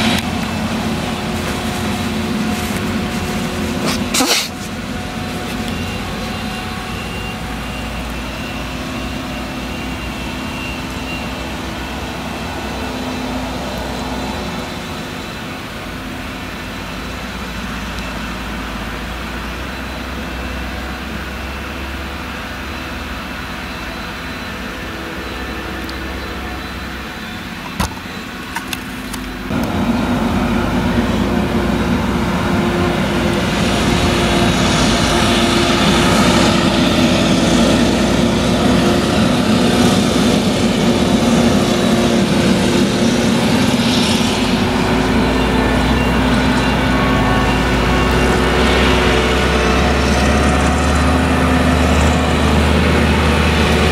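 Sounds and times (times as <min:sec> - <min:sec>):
harvester engine under load: 0:00.0 - 0:53.9
tractor running: 0:00.0 - 0:53.9.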